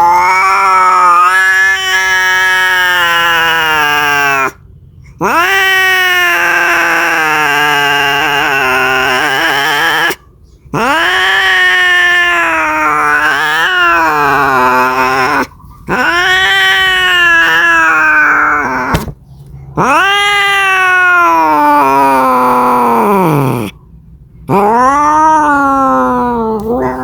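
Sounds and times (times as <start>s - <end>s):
cat yowling: 0.0s - 4.6s, 5.2s - 19.1s, 19.7s - 23.8s, 24.5s - 27.0s.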